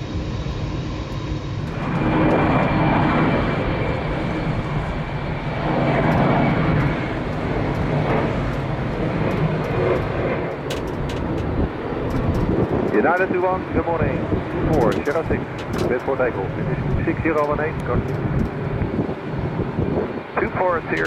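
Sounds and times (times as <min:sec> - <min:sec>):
high engine whine: 0:00.0 - 0:21.0
jet engines roaring: 0:00.0 - 0:21.0.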